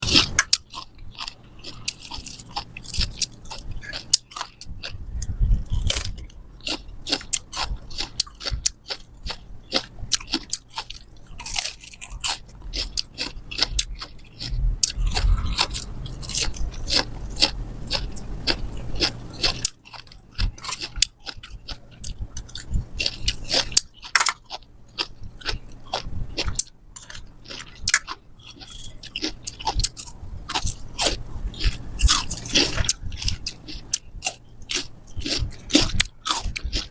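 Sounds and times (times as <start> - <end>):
crunching bites: 0.0 - 5.0, 5.6 - 36.9
wet chewing: 0.0 - 36.9.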